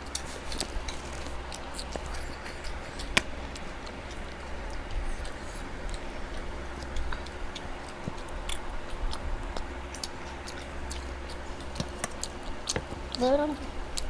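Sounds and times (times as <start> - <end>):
low steady hum: 0.0 - 14.0
people chewing food: 0.0 - 14.0.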